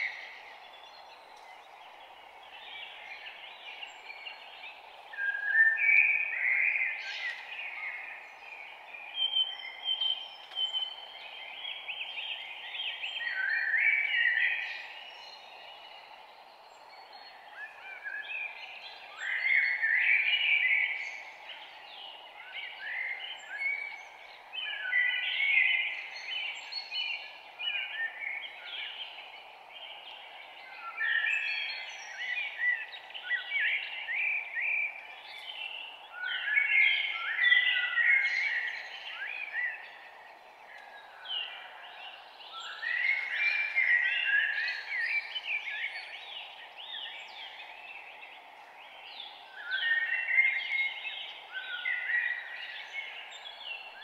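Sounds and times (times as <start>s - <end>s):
faint background hiss: 0.0s - 54.0s
songbirds singing and chirping: 0.0s - 54.0s.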